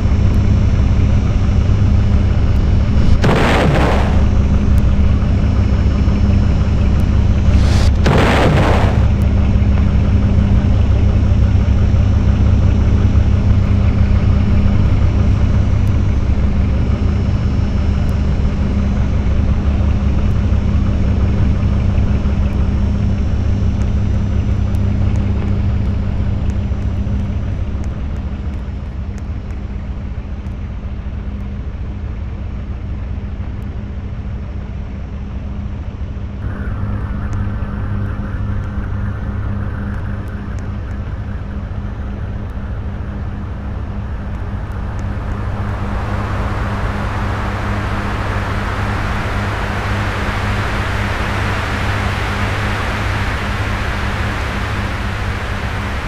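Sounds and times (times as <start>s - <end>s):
electric fan humming: 0.0s - 27.5s, 36.4s - 56.0s.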